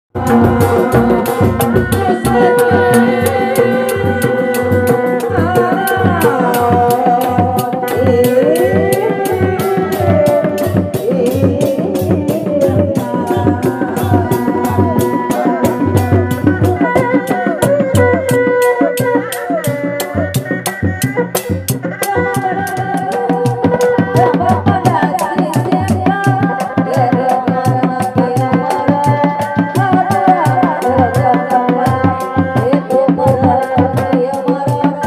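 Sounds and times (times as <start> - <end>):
drums beating a fast rhythm: 0.1 - 35.0.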